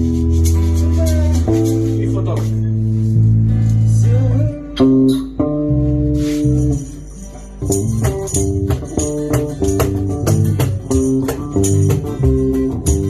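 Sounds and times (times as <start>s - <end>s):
band playing guitars and bass: 0.0s - 13.0s.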